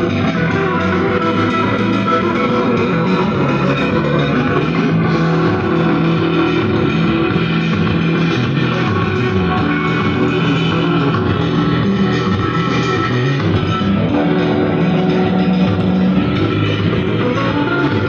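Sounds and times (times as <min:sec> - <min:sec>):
song with guitar through speaker: 0:00.0 - 0:18.0.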